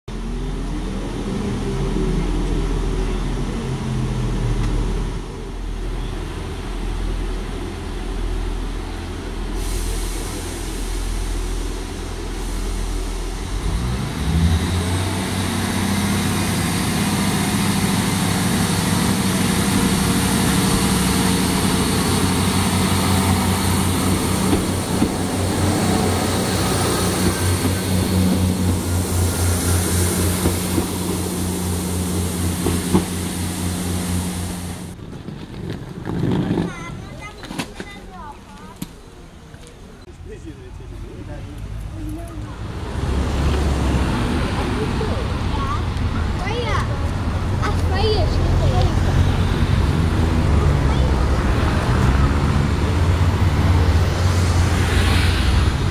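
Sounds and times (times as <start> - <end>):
diesel train engine: 0.1 - 55.9.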